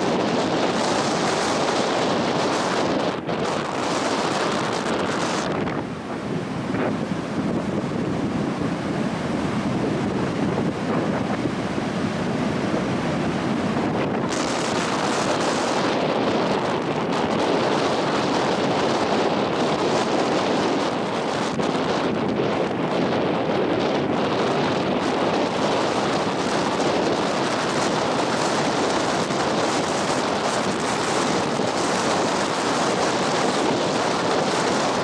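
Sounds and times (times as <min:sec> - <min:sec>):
surf breaking on beach: 0:00.0 - 0:35.0
wind buffeting microphone: 0:00.0 - 0:35.0.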